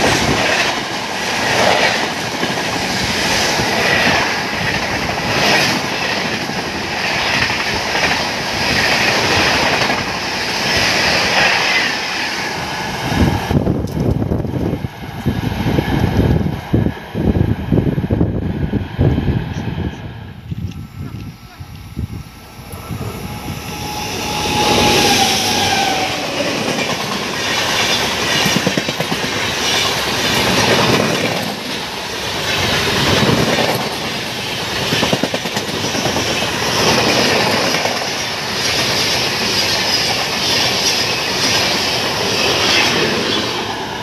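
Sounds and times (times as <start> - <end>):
train clickety-clack: 0.0 - 19.8, 24.2 - 44.0
train wheels rumbling on rail: 0.0 - 44.0.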